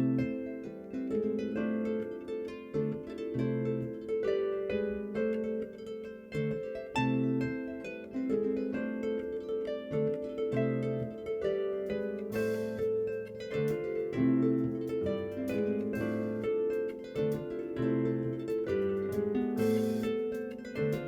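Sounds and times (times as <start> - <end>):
harp playing: 0.0 - 21.0.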